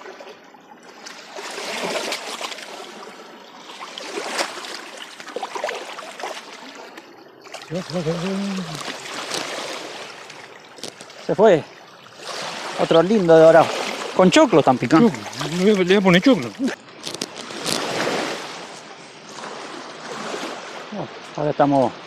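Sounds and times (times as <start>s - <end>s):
water splashing in shallows: 0.0s - 22.0s.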